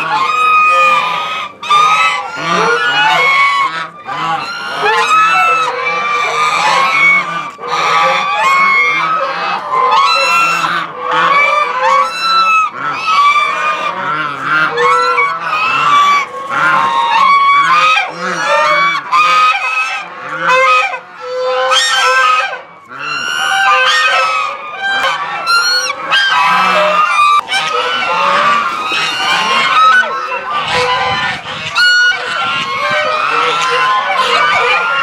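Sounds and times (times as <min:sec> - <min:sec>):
geese honking: 0:00.0 - 0:35.0.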